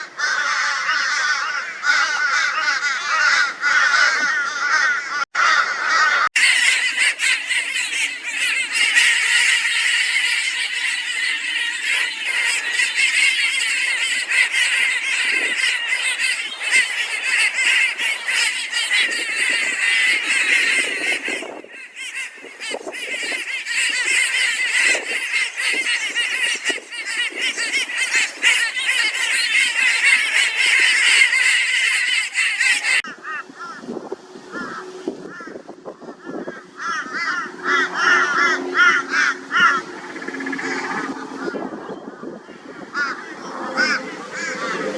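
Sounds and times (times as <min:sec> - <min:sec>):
crows cawing: 0:00.0 - 0:33.9, 0:36.2 - 0:40.9.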